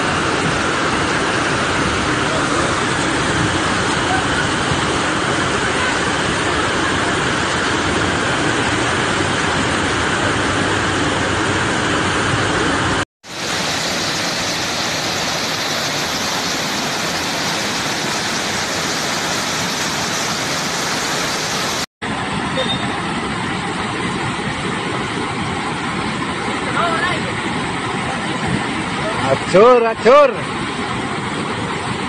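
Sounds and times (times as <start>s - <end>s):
floodwater rushing: 0.0s - 32.0s
heavy rain falling: 0.0s - 32.0s.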